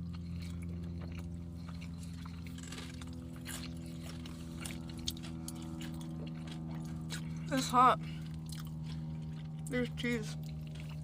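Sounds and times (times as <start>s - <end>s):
steady low hum: 0.0s - 11.0s
wet chewing mouth sounds: 0.0s - 11.0s.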